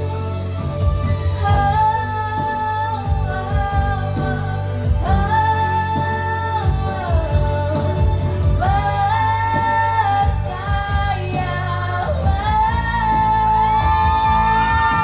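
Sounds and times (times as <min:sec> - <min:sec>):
backing track music: 0:00.0 - 0:15.0
woman singing pop ballad: 0:00.0 - 0:15.0.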